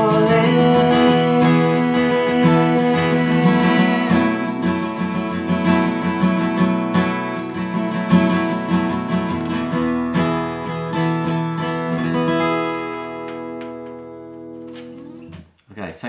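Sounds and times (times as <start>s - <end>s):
acoustic guitar strumming: 0.0s - 15.4s.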